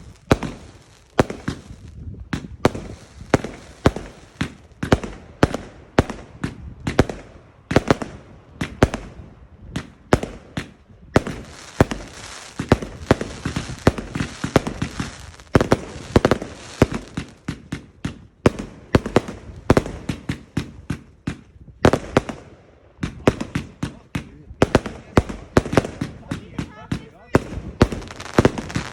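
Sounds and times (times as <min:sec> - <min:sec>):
fireworks bangs: 0:00.0 - 0:28.9
fireworks crackling hiss: 0:00.0 - 0:28.9.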